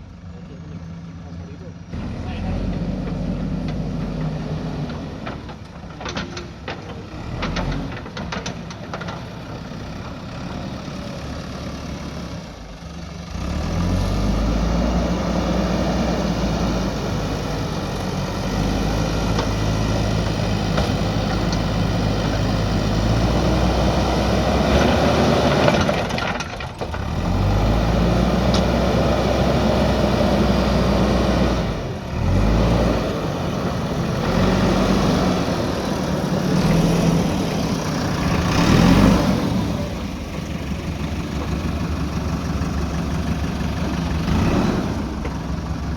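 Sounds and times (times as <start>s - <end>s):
diesel engine revving under load: 1.9s - 45.9s.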